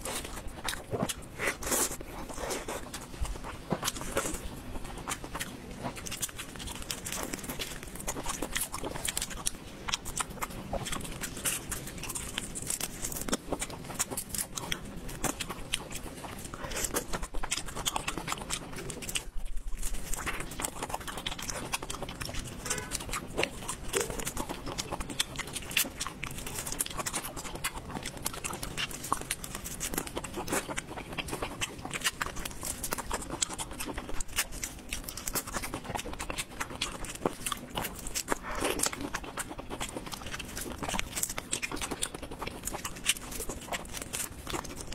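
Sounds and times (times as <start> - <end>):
wet chewing and sucking: 0.0 - 44.9
shrimp shells crackling and snapping: 3.6 - 44.9.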